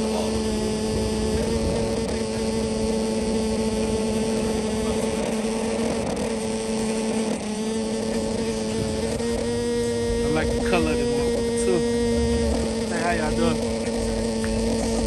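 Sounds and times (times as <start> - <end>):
noisy background: 0.0 - 15.0
steady droning hum: 0.0 - 15.0.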